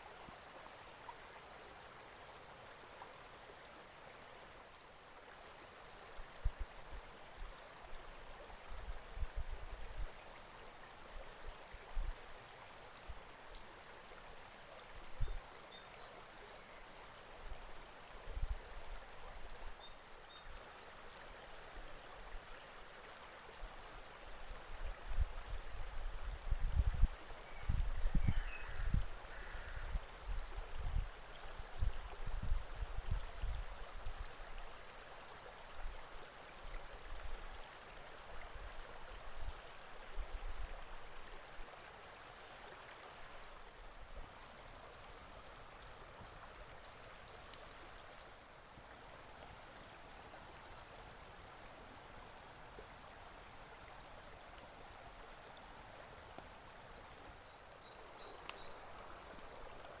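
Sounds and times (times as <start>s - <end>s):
running water: 0.0s - 60.0s.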